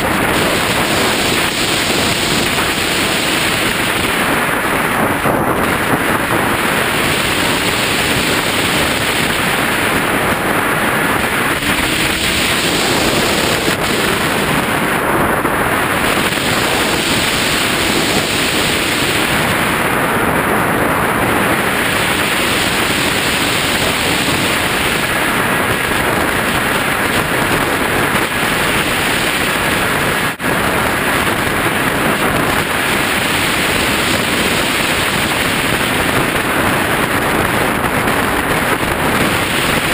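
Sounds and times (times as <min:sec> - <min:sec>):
propeller noise: 0:00.0 - 0:39.9
wind rushing: 0:00.0 - 0:39.9.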